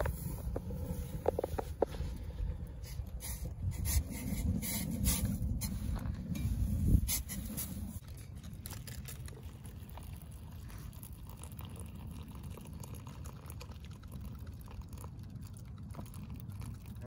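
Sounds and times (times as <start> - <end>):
water boiling and bubbling: 0.0 - 17.0.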